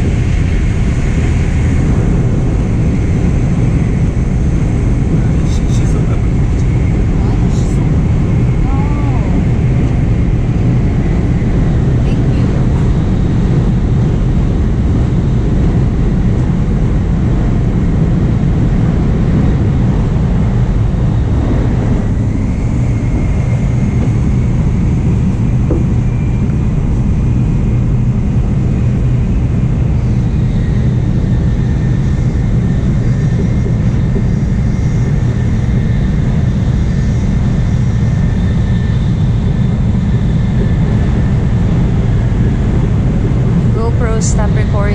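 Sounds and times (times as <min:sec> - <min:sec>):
faint high whine: 0:00.0 - 0:44.9
train cabin rumble and rushing: 0:00.0 - 0:44.9.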